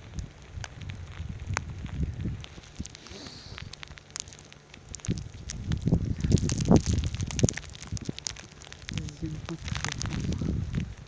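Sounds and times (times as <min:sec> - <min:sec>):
wind buffeting microphone: 0:00.0 - 0:03.0, 0:04.8 - 0:11.0
crackling: 0:00.0 - 0:11.0.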